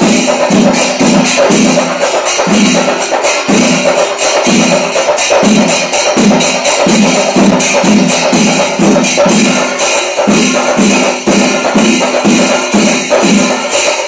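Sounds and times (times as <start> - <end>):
drums struck with sticks: 0.0 - 14.0
hand cymbals clashing: 0.0 - 14.0.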